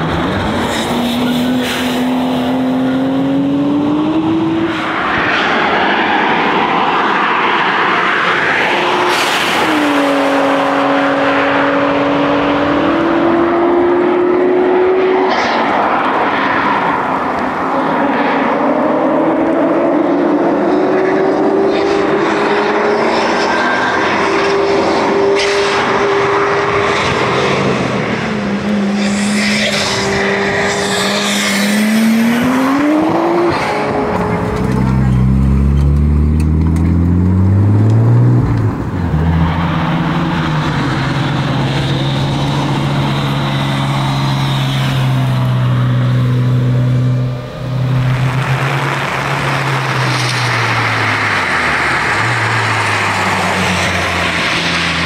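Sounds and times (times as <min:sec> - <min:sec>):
car engine revving through gears: 0:00.0 - 0:05.7, 0:07.8 - 0:15.9, 0:18.2 - 0:55.0.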